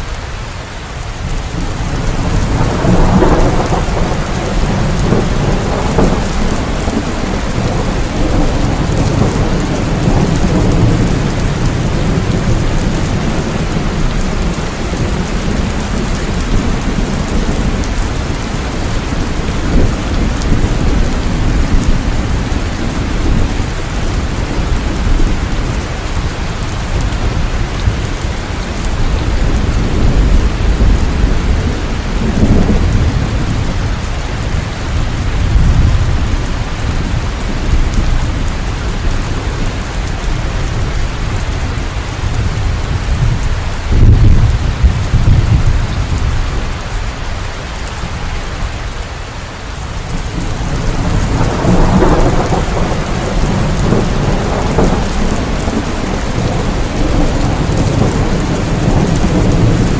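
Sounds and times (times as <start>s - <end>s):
heavy rain: 0.0s - 59.9s
rolling thunder: 1.2s - 47.0s, 50.0s - 59.9s.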